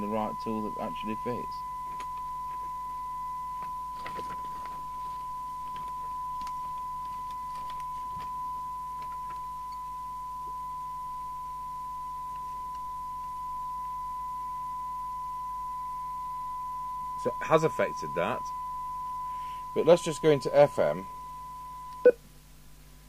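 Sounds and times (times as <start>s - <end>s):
test tone from loudspeaker: 0.0s - 22.2s.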